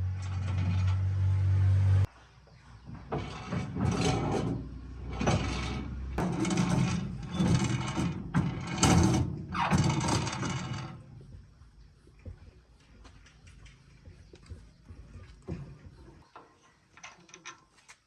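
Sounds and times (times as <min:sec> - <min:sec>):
scrapes and knocks: 0:00.0 - 0:01.4, 0:02.5 - 0:18.0.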